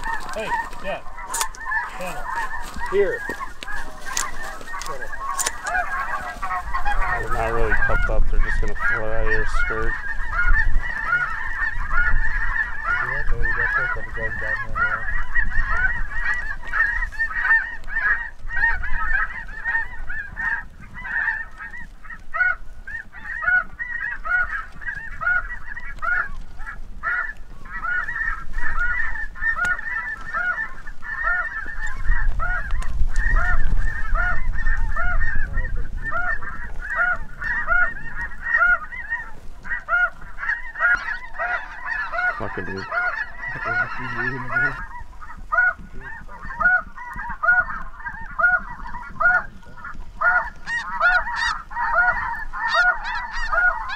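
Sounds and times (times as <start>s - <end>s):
geese honking chorus: 0.0s - 53.9s.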